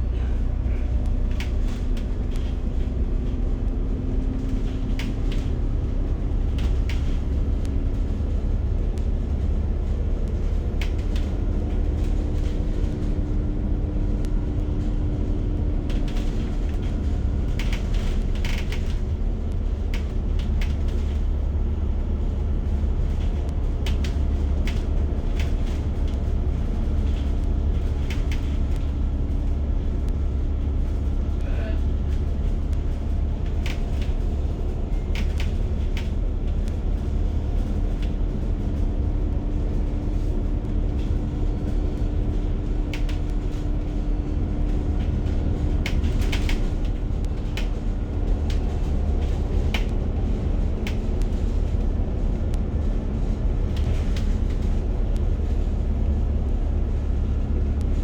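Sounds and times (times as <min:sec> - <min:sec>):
light rattles and clicks: 0:00.0 - 0:58.0
vehicle interior rumble: 0:00.0 - 0:58.0.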